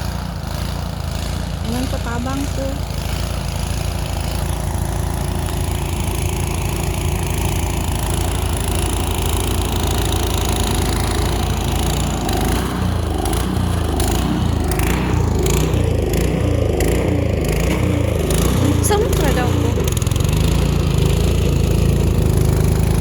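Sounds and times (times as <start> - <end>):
snowblower engine running: 0.0 - 23.0.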